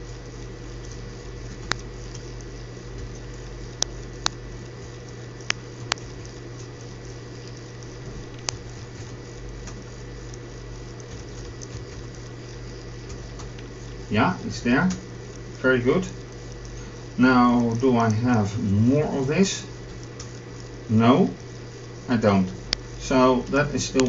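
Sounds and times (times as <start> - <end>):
electrical hum and hiss: 0.0 - 24.0.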